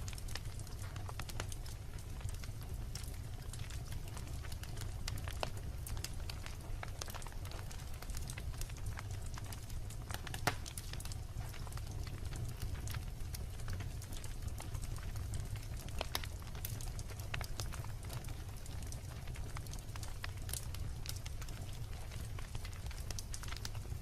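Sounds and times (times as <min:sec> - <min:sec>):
fire rumbling: 0:00.0 - 0:24.0
wood crackling and popping: 0:00.0 - 0:24.0.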